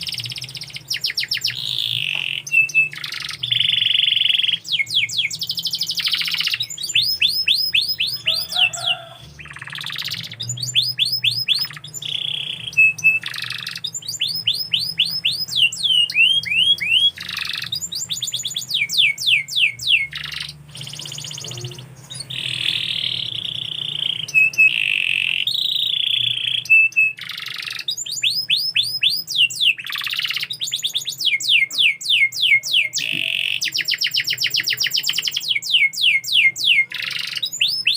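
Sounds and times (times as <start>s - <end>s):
canary singing: 0.0s - 37.9s.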